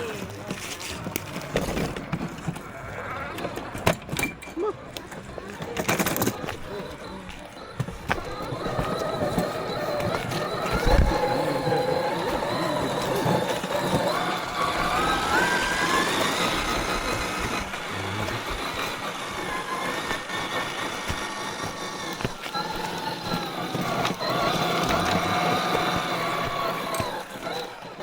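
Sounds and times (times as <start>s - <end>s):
rc car motor and gear whine: 0.0s - 28.0s.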